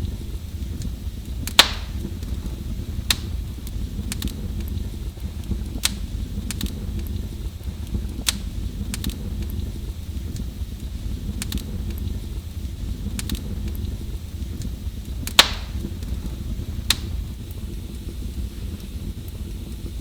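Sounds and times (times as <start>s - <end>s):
fire crackling and popping: 0.0s - 20.0s
flames rumbling: 0.0s - 20.0s.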